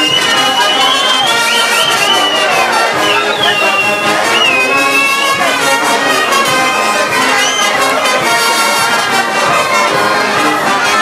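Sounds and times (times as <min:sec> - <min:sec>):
brass band playing dance music: 0:00.0 - 0:11.0.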